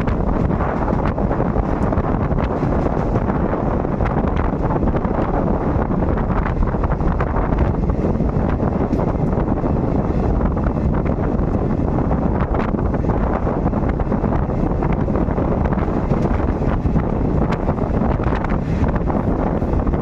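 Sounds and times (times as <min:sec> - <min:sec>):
train rumble: 0:00.0 - 0:20.0
wind buffeting microphone: 0:00.0 - 0:20.0.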